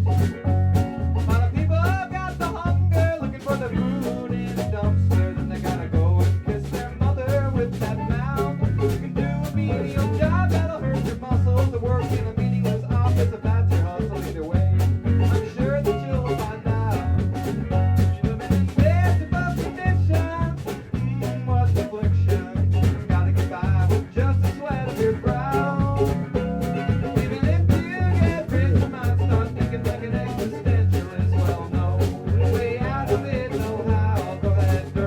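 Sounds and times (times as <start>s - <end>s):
live ska band: 0.0s - 35.0s.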